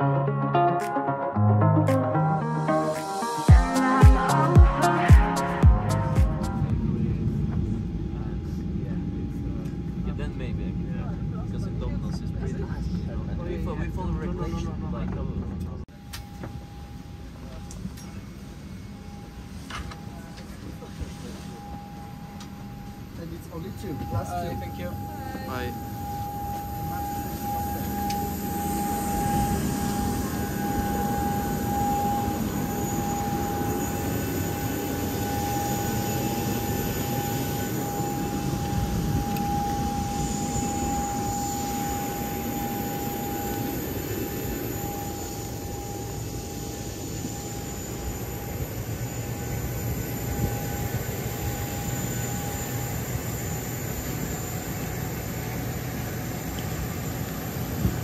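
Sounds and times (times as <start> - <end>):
jet aircraft whine and rumble: 6.4 - 58.0.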